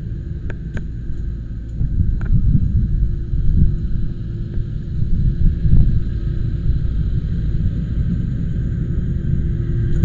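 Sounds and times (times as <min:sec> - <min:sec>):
constant hum: 0:00.0 - 0:10.0.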